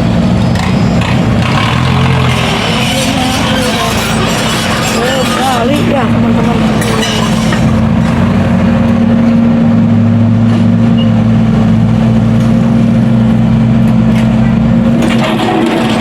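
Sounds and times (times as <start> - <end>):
heavy machinery engine humming: 0.0 - 16.0.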